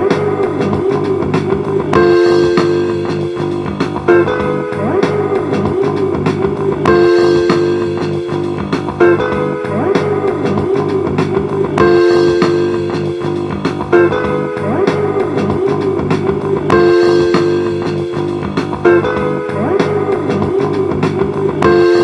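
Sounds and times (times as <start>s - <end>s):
guitar riff with bending notes: 0.0s - 22.0s.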